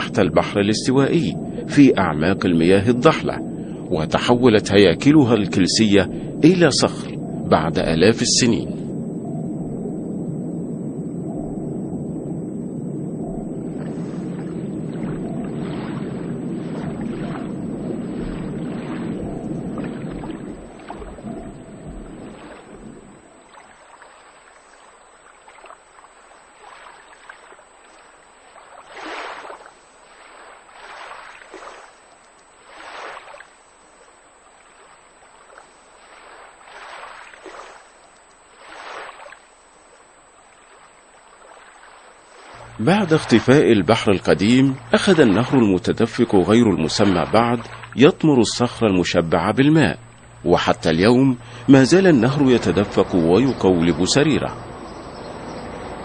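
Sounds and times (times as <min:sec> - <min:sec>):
water lapping and splashing: 0:00.0 - 0:56.0
water rushing: 0:00.0 - 0:56.0.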